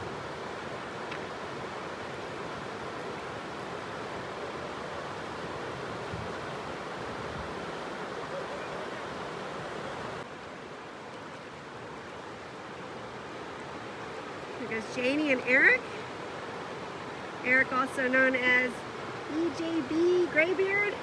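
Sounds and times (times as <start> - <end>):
whitewater rapids rushing: 0.0 - 21.0.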